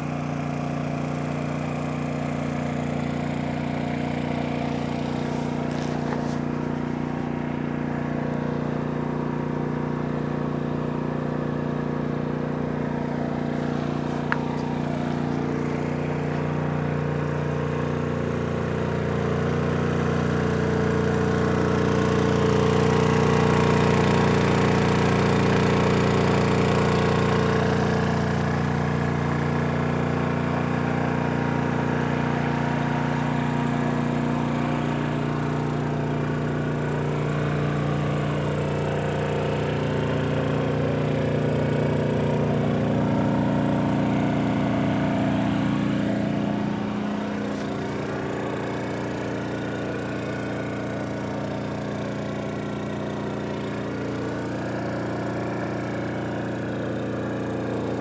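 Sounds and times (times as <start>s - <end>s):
motor running drone: 0.0s - 58.0s.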